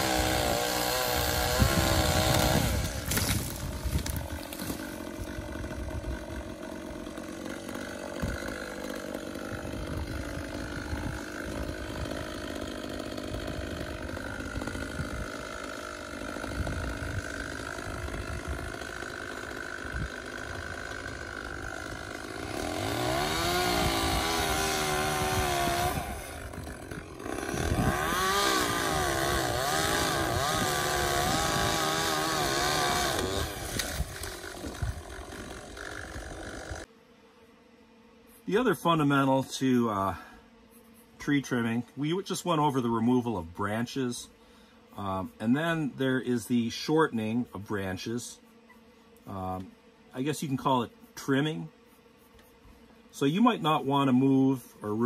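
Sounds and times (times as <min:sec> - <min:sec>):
chainsaw idling and cutting: 0:00.0 - 0:36.9, 0:38.4 - 0:51.8, 0:52.4 - 0:55.0.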